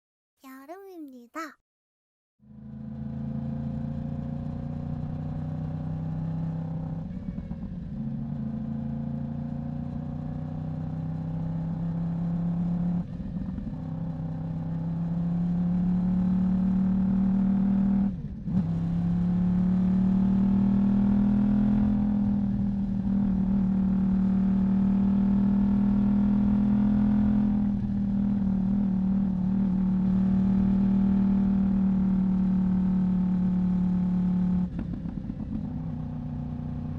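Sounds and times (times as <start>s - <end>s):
motorcycle engine accelerating: 2.4s - 36.9s.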